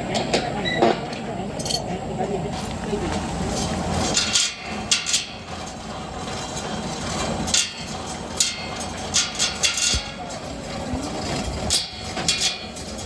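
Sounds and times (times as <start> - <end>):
low workshop rumble: 1.3 - 13.0.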